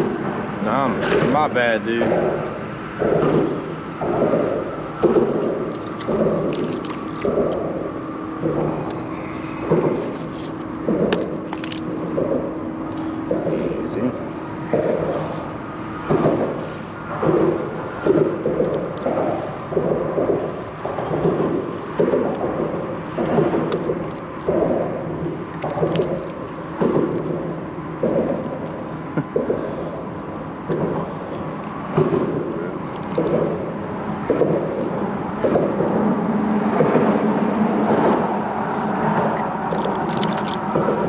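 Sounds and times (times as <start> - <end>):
water splashing at a kayak: 2.4 - 41.0.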